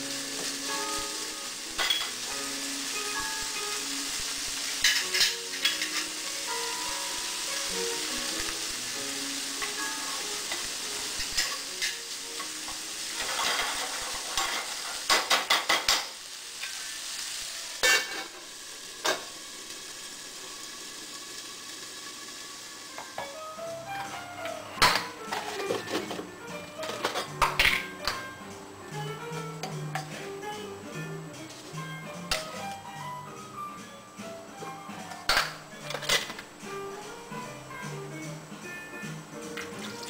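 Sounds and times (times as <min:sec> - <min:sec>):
food sizzling in a frying pan: 0:00.0 - 0:40.0.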